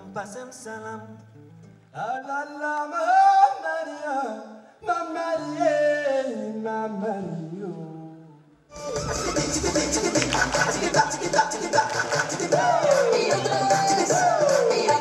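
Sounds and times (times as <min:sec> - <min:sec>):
man singing: 0:00.0 - 0:15.0.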